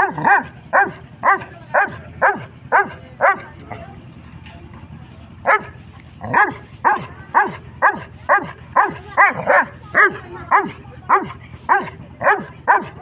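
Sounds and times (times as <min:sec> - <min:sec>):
puppy barking: 0:00.0 - 0:03.8, 0:05.4 - 0:13.0.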